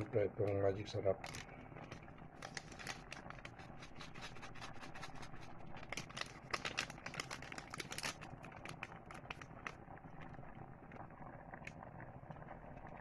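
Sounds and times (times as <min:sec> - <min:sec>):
low steady hum: 0:00.0 - 0:13.0
small crackles and pops: 0:00.0 - 0:13.0.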